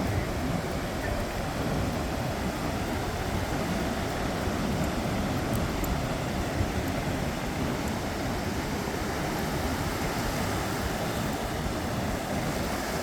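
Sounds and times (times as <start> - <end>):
ocean surf washing ashore: 0.0 - 13.0
wind rumbling on microphone: 0.0 - 13.0.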